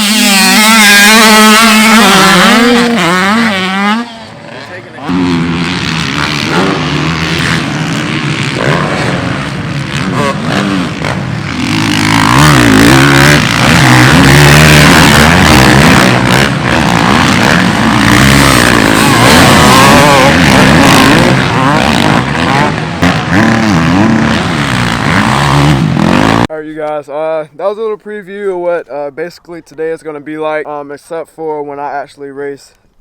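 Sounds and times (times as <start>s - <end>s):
dirt bike engines revving: 0.0s - 26.7s.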